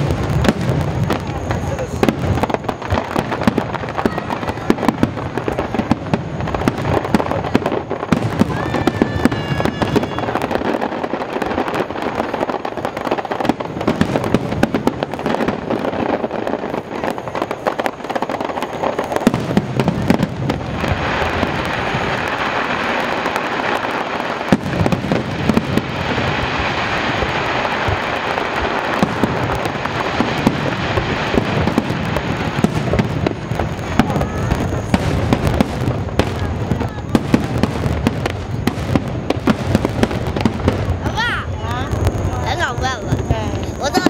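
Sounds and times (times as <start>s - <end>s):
firework crackling: 0.0s - 44.0s
firework shells bursting: 0.0s - 44.0s.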